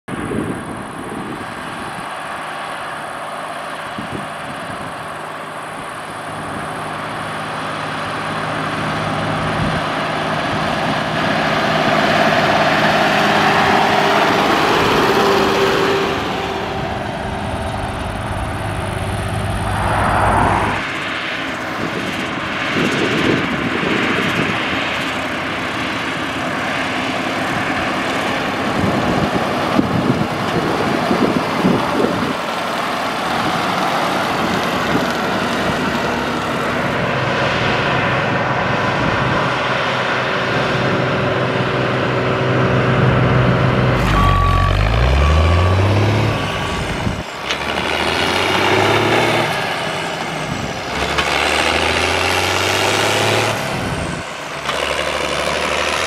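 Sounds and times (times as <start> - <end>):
heavy truck diesel engine: 0.1 - 56.0
tractor diesel engine passing: 0.1 - 56.0.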